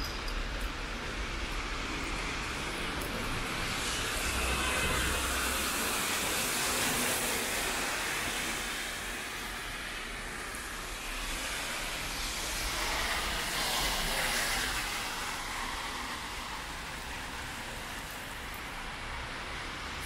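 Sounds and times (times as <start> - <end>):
tyres on wet road: 0.1 - 20.0
rain hiss: 1.3 - 20.0.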